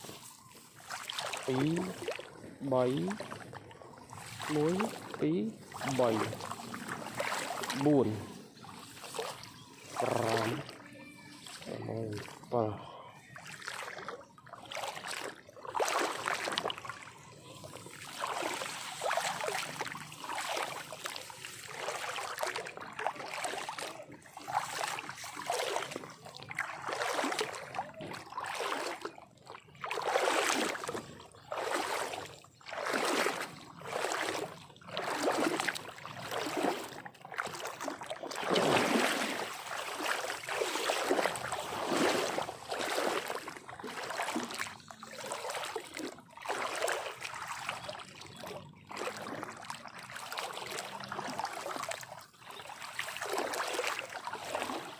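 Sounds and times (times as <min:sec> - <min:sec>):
water sloshing and splashing: 0:00.0 - 0:54.9.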